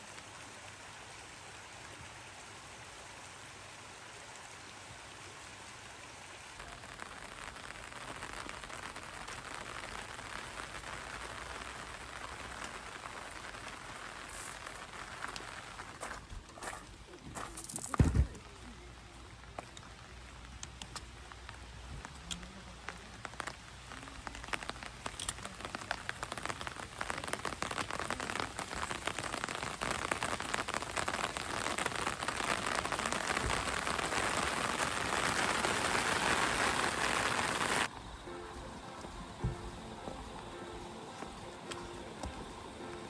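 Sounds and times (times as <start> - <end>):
rain falling: 0.0 - 43.0.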